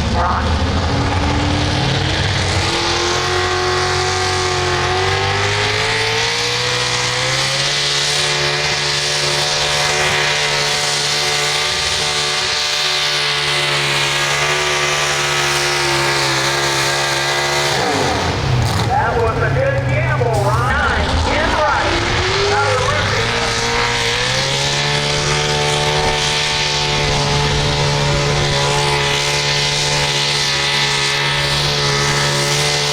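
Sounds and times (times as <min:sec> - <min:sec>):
tractor engine at full throttle: 0:00.0 - 0:32.9.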